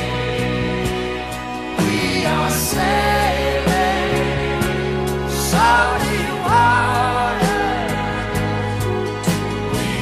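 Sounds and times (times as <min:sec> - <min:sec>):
slow song: 0:00.0 - 0:10.0.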